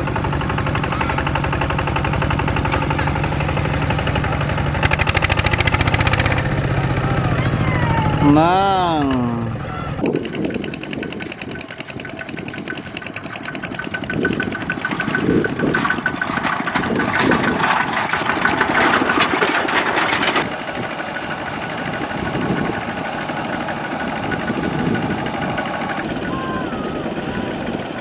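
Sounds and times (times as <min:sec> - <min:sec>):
tractor diesel engine knocking: 0:00.0 - 0:28.0.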